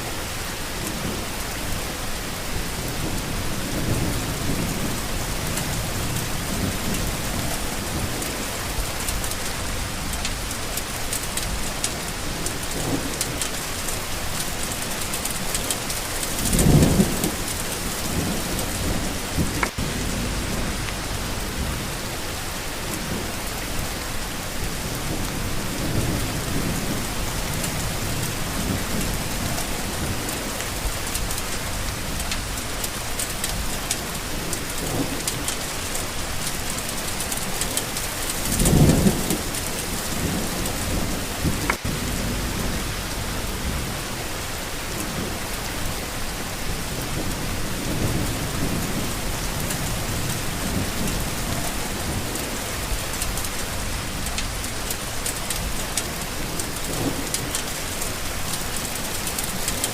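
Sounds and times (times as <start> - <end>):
heavy rain falling: 0.0 - 59.9
thunder rumbling: 0.7 - 59.9.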